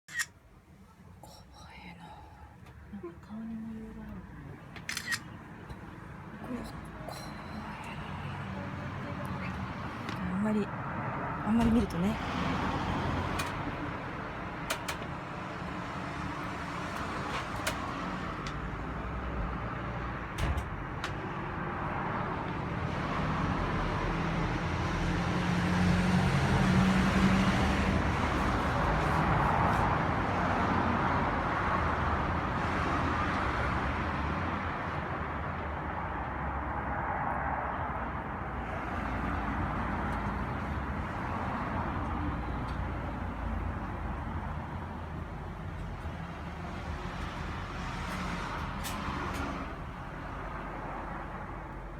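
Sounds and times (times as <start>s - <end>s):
road traffic rushing: 0.1s - 51.9s.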